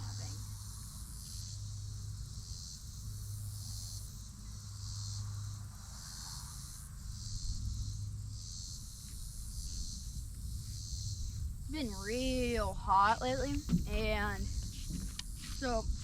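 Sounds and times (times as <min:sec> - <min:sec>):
insects trilling: 0:00.0 - 0:16.0
low steady hum: 0:00.0 - 0:16.0.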